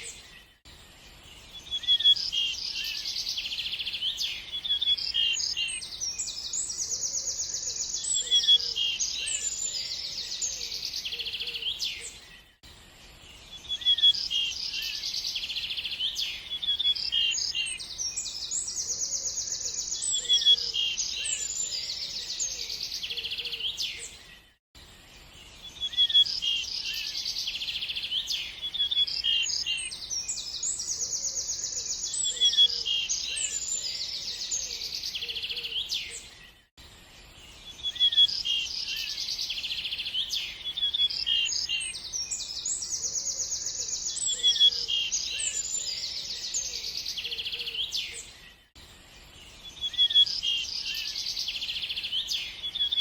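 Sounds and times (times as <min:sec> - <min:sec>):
birds chirping and trilling: 0:00.0 - 0:53.0.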